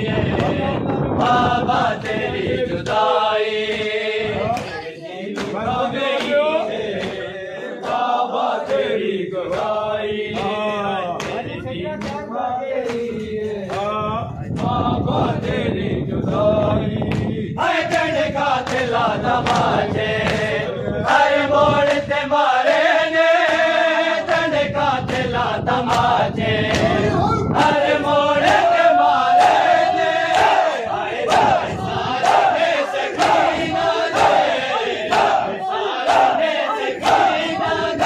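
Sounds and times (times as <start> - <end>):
men chanting: 0.0 - 38.0.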